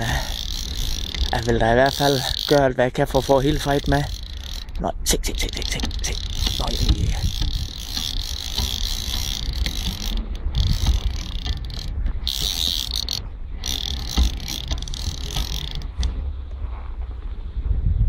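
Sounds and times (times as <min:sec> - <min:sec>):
fishing reel drag rattling: 0:00.0 - 0:16.2
wind rumble on microphone: 0:00.0 - 0:18.0.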